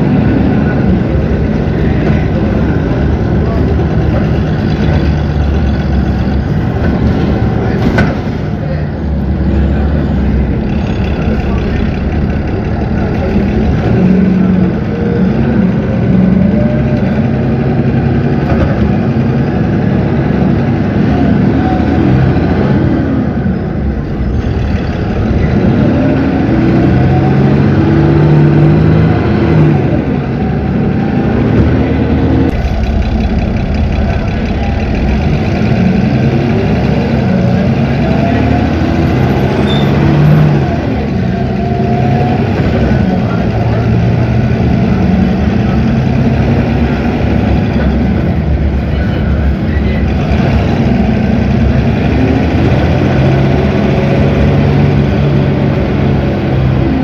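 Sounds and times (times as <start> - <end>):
bus diesel engine accelerating: 0.0 - 57.0
transmission shifting up: 0.0 - 57.0.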